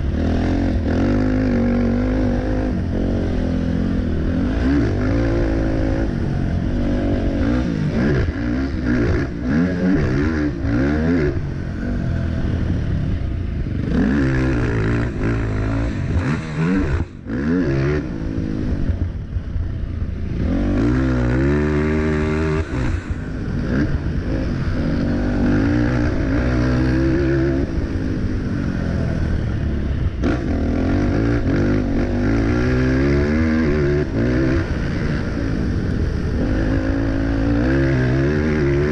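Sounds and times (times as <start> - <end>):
quad engine revving: 0.0 - 12.8, 13.6 - 19.0, 20.3 - 38.9.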